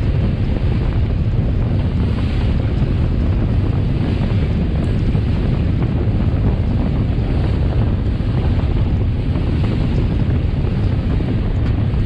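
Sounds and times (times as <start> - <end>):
rush of boat wake: 0.0 - 12.0
wind blowing on microphone: 0.0 - 12.0.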